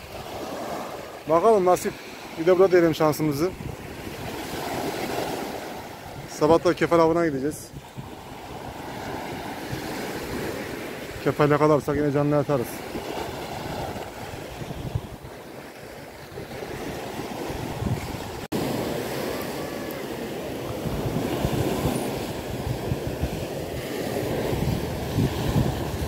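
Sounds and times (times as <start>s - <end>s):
small waves washing on sand: 0.0s - 26.0s
wind buffeting microphone: 3.4s - 12.1s, 12.8s - 26.0s.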